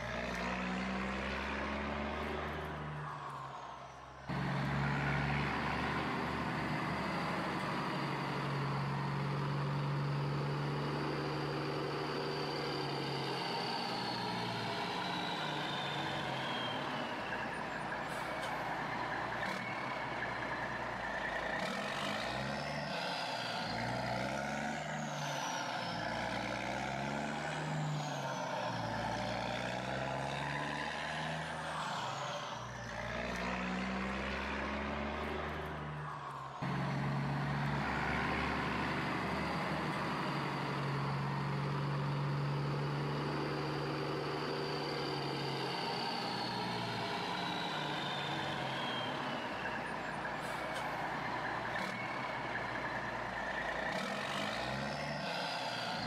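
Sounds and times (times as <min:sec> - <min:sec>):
engines droning and revving: 0:00.0 - 0:56.0.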